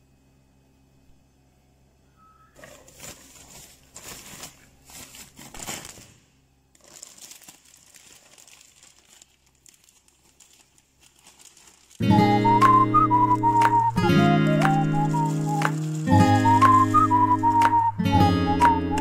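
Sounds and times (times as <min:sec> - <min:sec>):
plastic bag crinkling: 0:02.6 - 0:17.8.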